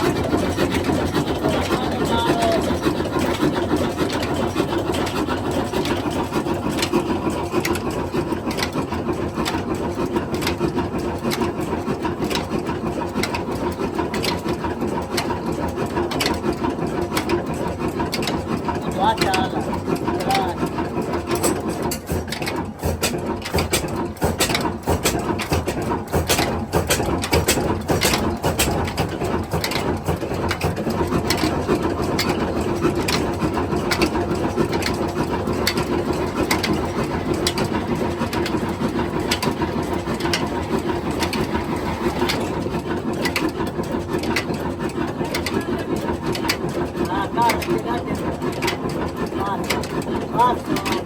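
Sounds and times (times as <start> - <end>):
diesel engine clattering: 0.0 - 51.0.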